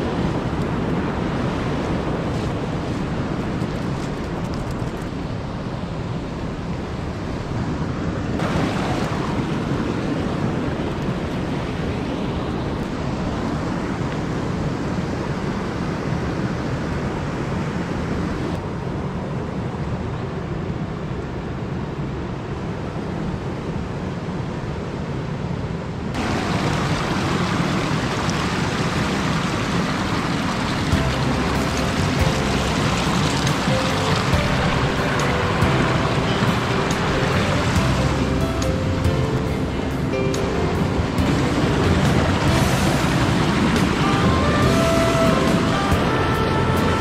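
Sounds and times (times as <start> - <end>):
river water rushing over rocks: 0.0 - 18.4, 26.2 - 47.0.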